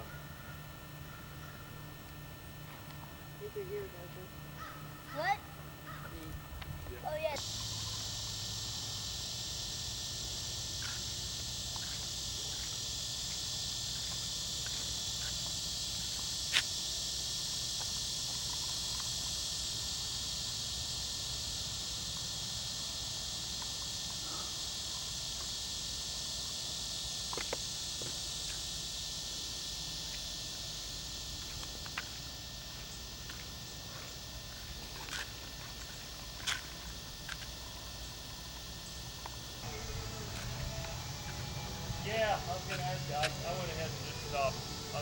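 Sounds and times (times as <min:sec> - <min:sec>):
insects chorus: 0:00.0 - 0:45.0.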